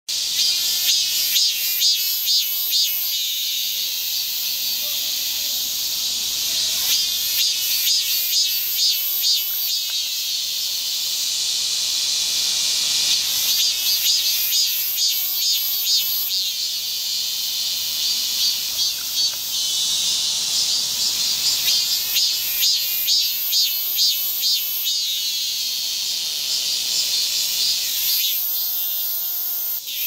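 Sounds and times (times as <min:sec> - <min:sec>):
cicada buzzing: 0:00.1 - 0:30.0.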